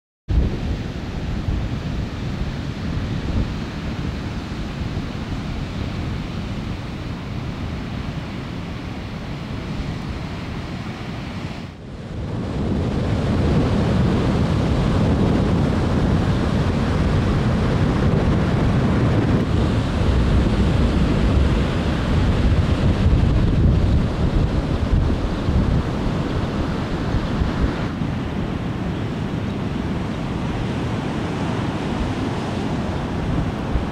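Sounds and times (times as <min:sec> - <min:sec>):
surf breaking on beach: 0:00.3 - 0:33.9
wind buffeting microphone: 0:00.3 - 0:33.9.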